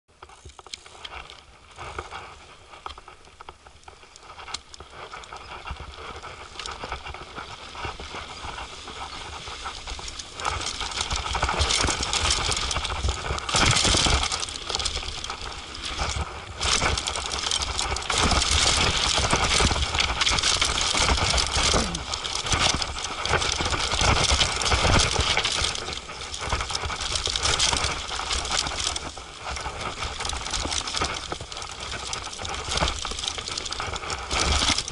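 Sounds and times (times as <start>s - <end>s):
mountain bike rattling over bumps: 0.2s - 34.9s.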